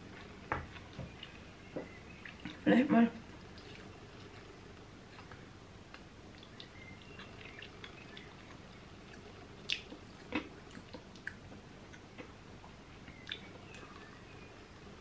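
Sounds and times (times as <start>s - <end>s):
chewing crunchy bread: 0.0s - 14.4s.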